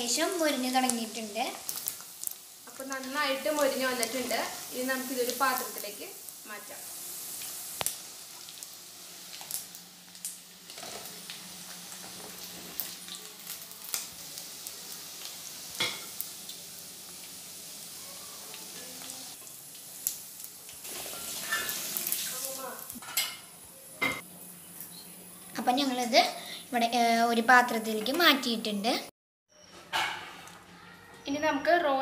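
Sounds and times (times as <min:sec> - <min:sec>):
chicken sizzling in hot oil: 0:00.0 - 0:28.6.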